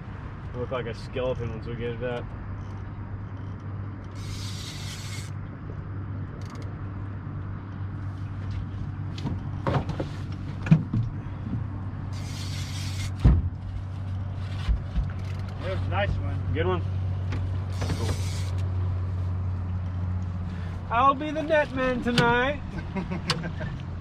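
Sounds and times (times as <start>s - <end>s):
boat motor humming: 2.2s - 24.0s.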